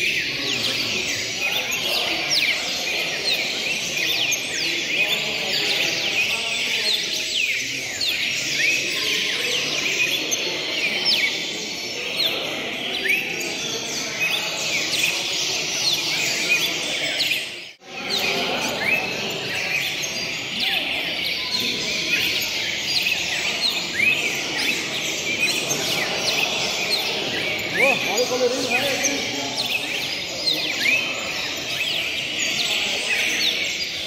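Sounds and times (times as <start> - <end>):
cardinals chirping and singing: 0.0 - 34.0.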